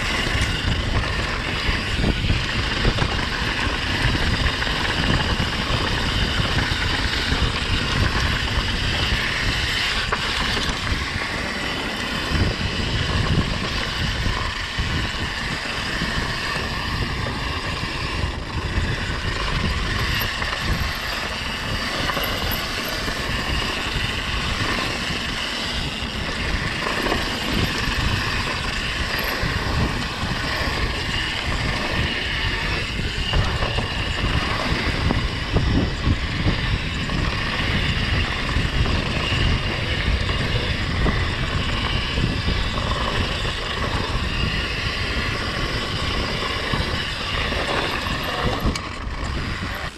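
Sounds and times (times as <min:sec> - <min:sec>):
bike rattling: 0:00.0 - 0:49.9
tyres rolling over dirt: 0:00.0 - 0:49.9
wind buffeting microphone: 0:00.0 - 0:49.9.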